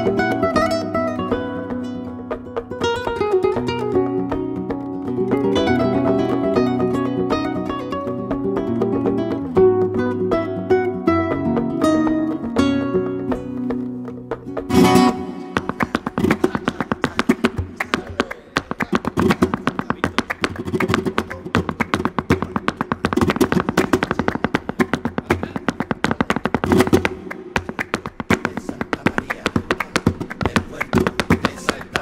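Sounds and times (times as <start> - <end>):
flamenco guitar strumming: 0.0 - 32.0.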